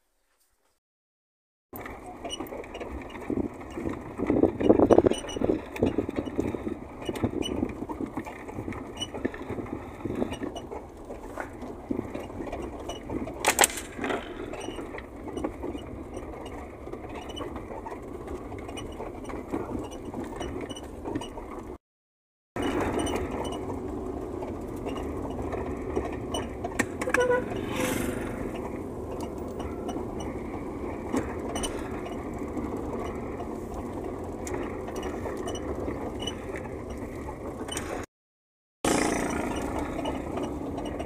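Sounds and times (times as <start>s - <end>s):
car running rumble: 1.8s - 21.8s, 22.6s - 38.1s, 38.8s - 41.0s.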